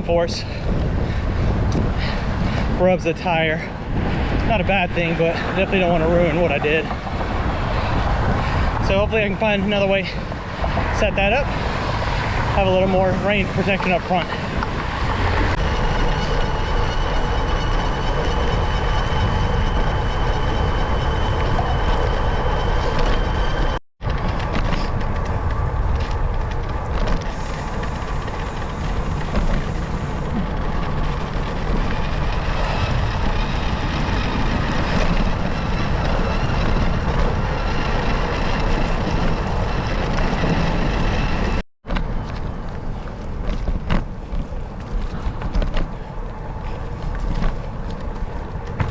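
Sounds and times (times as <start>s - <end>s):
bicycle tyres on pavement: 0.0s - 48.9s
wind over microphone: 0.0s - 48.9s.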